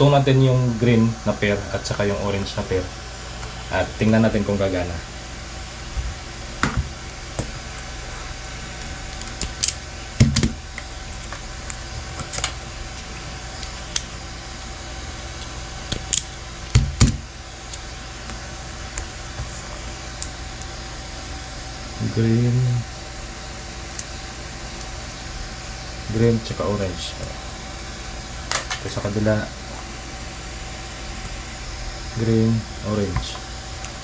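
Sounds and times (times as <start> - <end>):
fan hum: 0.0 - 34.0.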